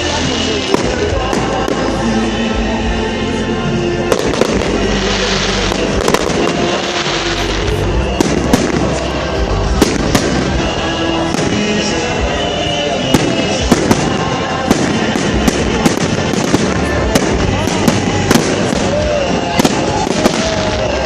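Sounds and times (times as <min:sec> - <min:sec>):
fireworks bangs: 0:00.0 - 0:03.0, 0:03.8 - 0:21.0
music playing: 0:00.0 - 0:21.0.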